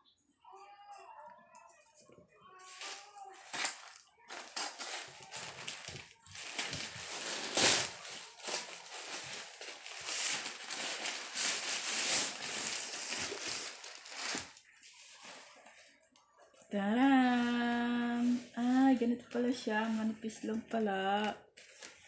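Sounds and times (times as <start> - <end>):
plastic bag rustling and crinkling: 2.6 - 16.0, 17.3 - 22.0.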